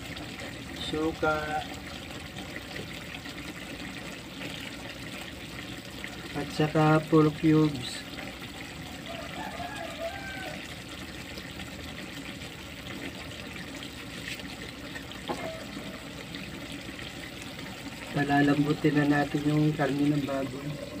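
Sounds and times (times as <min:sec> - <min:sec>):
stew bubbling in a frying pan: 0:00.0 - 0:21.0.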